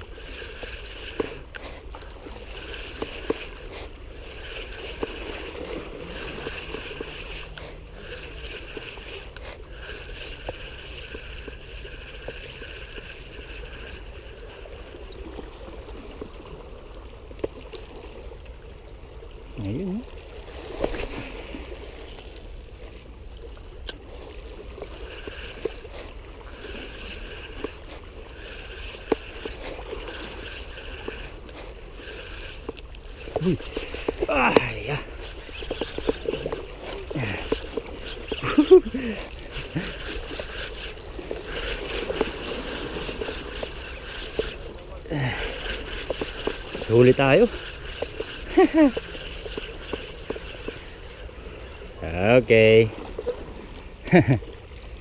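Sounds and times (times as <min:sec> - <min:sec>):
fishing reel whirring: 0:00.0 - 0:55.0
waves lapping against rocks: 0:00.0 - 0:55.0.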